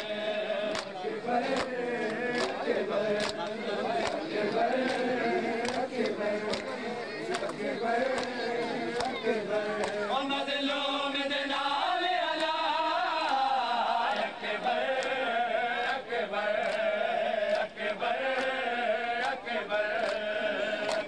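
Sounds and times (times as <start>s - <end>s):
men chanting a lament: 0.0s - 21.0s.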